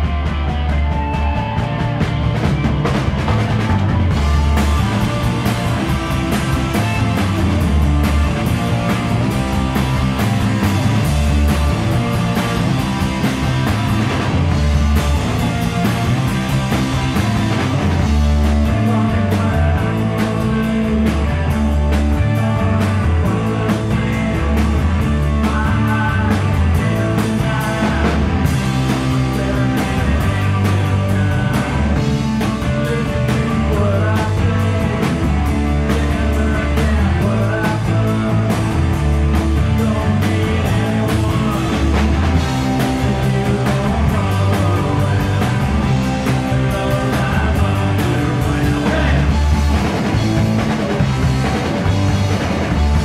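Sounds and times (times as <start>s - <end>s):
punk rock band playing live: 0.0s - 53.0s.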